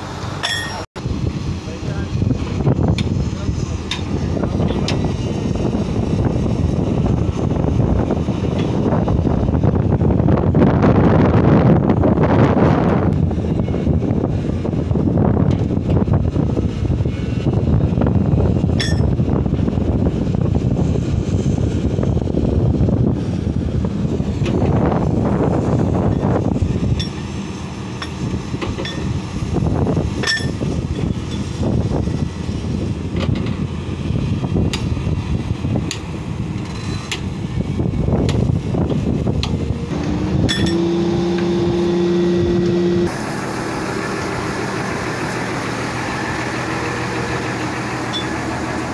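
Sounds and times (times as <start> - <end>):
heavy diesel machinery running: 0.0 - 48.9
wind buffeting microphone: 1.0 - 48.9.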